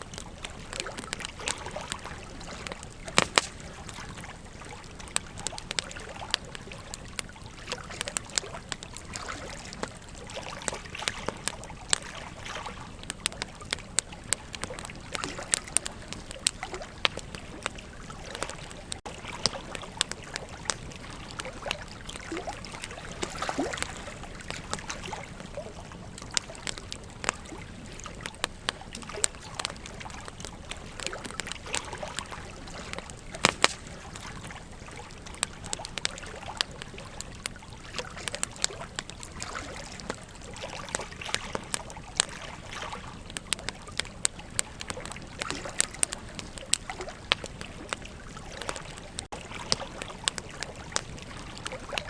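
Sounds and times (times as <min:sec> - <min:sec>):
campfire wood crackling: 0:00.0 - 0:52.0
sharp fire pops: 0:00.0 - 0:52.0.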